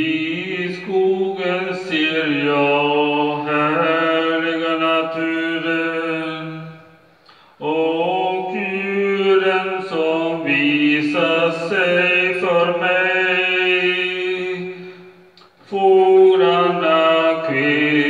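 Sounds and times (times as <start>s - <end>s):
man singing into a microphone: 0.0s - 6.9s, 7.6s - 18.0s.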